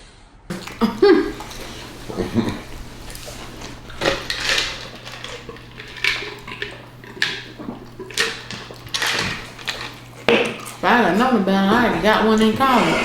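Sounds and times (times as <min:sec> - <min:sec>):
eating crunches: 0:00.5 - 0:13.0
steady low hum: 0:00.5 - 0:13.0.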